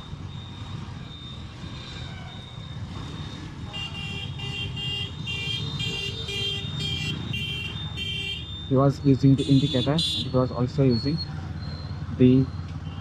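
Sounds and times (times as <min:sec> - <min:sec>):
loud electronic beeps: 0:00.0 - 0:13.0.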